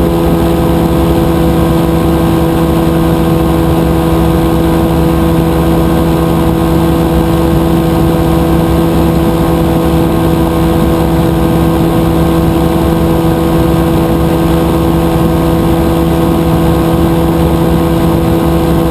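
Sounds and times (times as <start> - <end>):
two-stroke engine running loud: 0.0 - 18.9.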